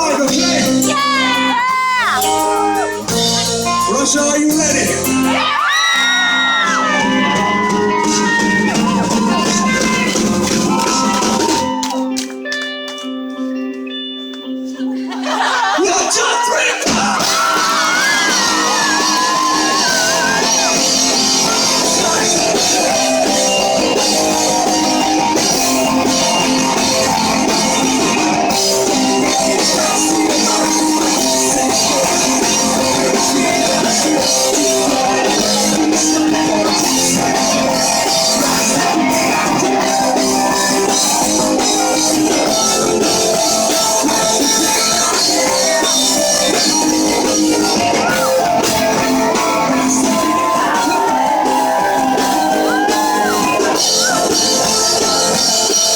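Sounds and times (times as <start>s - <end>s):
drum kit: 0.0s - 13.0s, 16.0s - 55.9s
electric guitars: 0.0s - 55.9s
rock band playing live: 0.0s - 55.9s.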